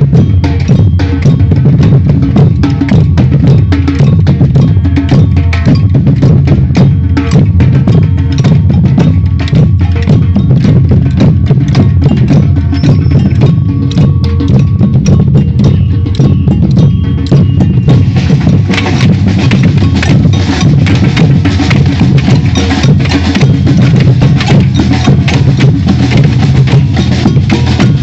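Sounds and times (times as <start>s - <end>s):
deep bass drums: 0.0s - 28.0s
samba percussion band: 0.0s - 28.0s.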